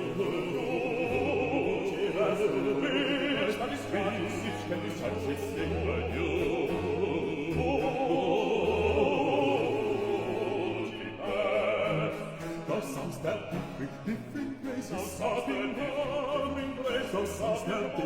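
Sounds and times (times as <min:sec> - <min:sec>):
two bass voices singing: 0:00.0 - 0:18.0.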